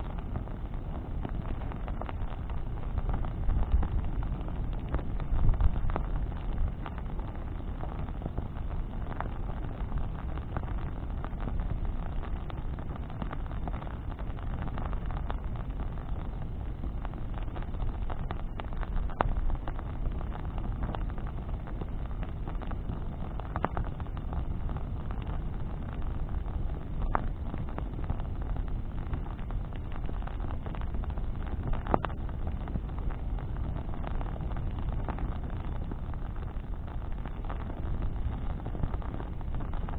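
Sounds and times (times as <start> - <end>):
bonfire burning rumble: 0.0 - 39.9
burning wood popping: 0.0 - 39.9.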